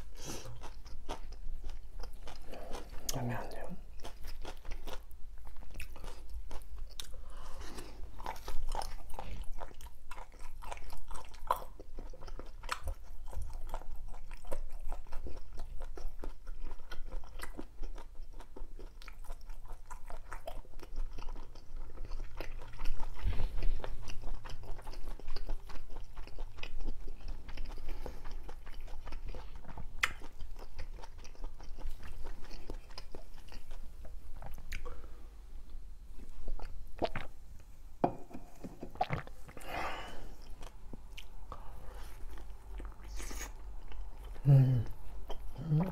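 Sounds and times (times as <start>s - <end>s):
person chewing food: 0.0s - 37.7s, 38.3s - 45.9s.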